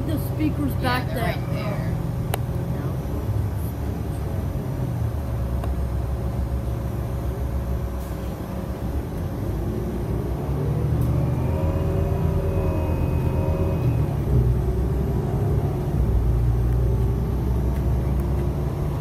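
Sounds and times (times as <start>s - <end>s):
bus engine and road rumble: 0.0s - 19.0s
rising engine whine: 0.0s - 19.0s.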